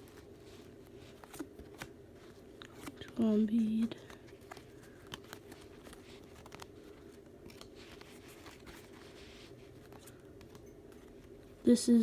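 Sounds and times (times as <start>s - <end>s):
cards clicking and rustling: 0.0s - 11.7s
low room hum: 0.0s - 12.0s.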